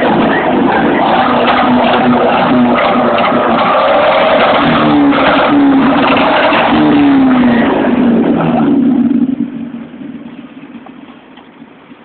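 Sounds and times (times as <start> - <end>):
car engine revving and idling: 0.0 - 12.0.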